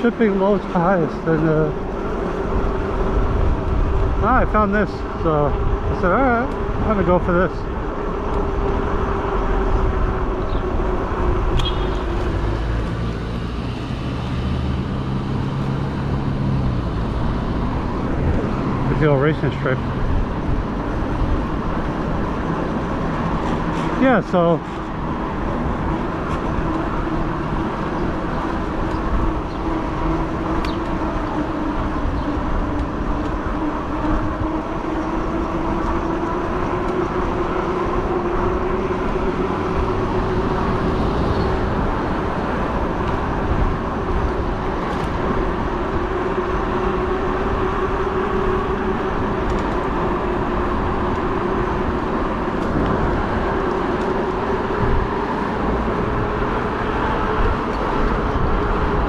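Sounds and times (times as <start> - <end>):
wind: 0.0 - 59.0
electric bike motor whine: 1.3 - 5.9, 6.5 - 23.3, 24.8 - 59.0.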